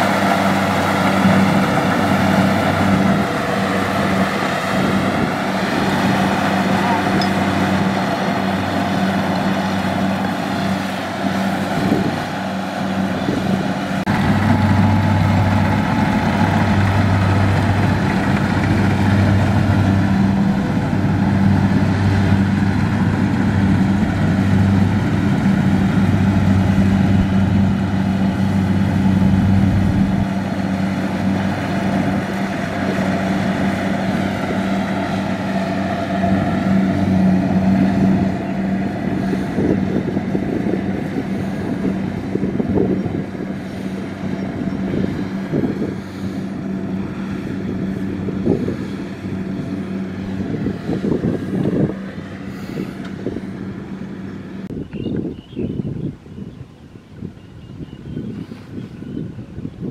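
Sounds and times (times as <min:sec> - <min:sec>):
deep machinery hum: 0:00.0 - 0:56.6
combine harvester engines droning: 0:00.0 - 0:59.9.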